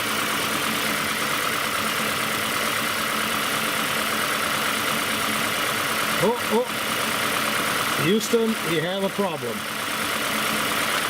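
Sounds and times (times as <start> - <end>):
car engine humming with whine: 0.0 - 11.0.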